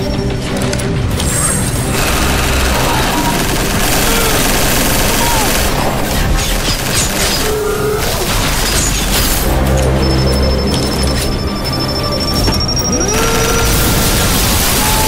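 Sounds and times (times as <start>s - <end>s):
film music: 0.0s - 15.0s.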